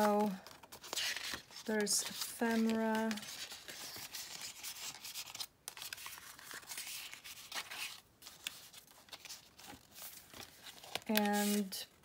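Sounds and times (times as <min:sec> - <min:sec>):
paper cards rustling and scraping: 0:00.0 - 0:12.0.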